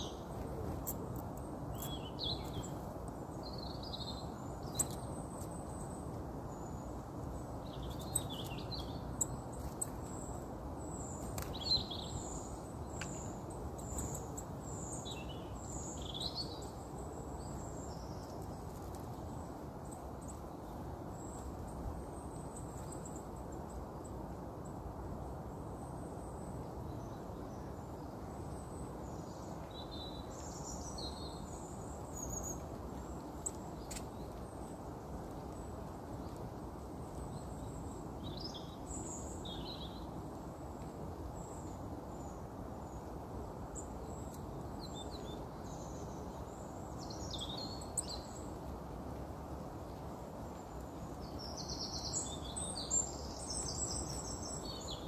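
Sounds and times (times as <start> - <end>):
outdoor background noise: 0.0 - 55.0.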